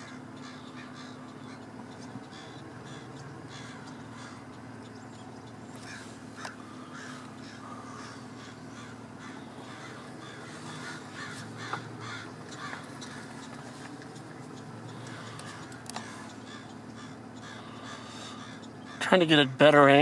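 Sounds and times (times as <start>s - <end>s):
crows cawing: 0.0s - 19.2s
steady low hum: 0.0s - 20.0s.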